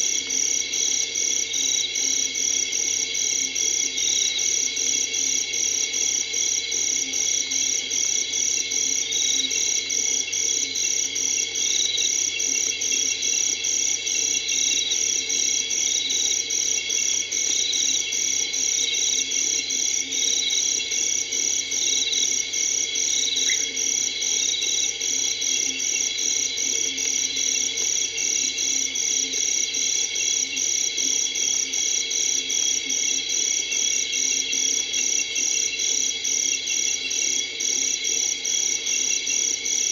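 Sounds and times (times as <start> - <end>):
crickets trilling: 0.0 - 39.9
faint insect chirps: 0.0 - 39.9
low insect chorus: 0.0 - 39.9.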